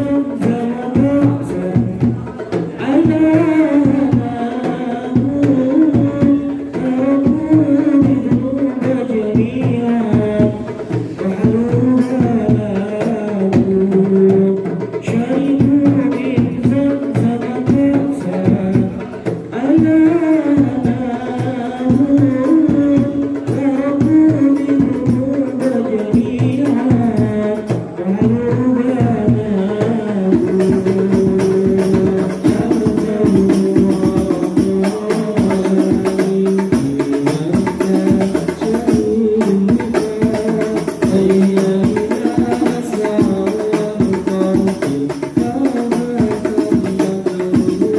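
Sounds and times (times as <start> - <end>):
bass drum: 0.0 - 47.9
frame drums rhythm: 0.0 - 47.9
men singing into microphones: 0.0 - 47.9.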